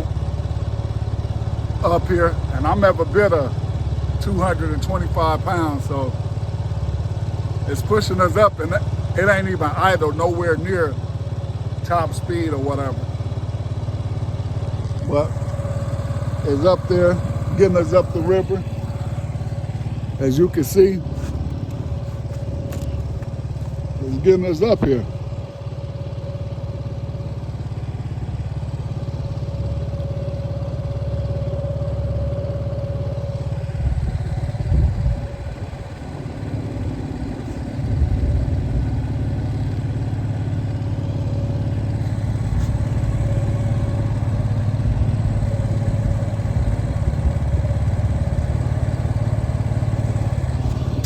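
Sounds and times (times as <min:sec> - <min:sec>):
outboard motor droning: 0:00.0 - 0:51.0.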